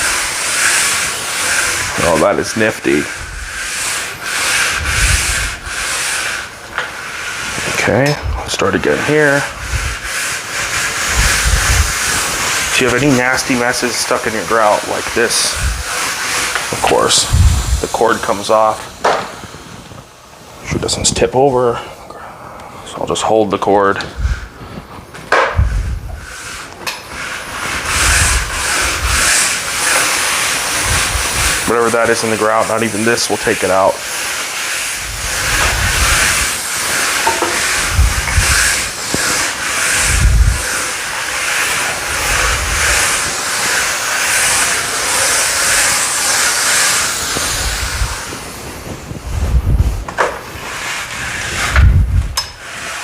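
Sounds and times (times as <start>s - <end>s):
brush scrubbing tile grout: 0.0s - 20.1s, 22.9s - 53.0s
steam mop hissing: 0.0s - 53.0s.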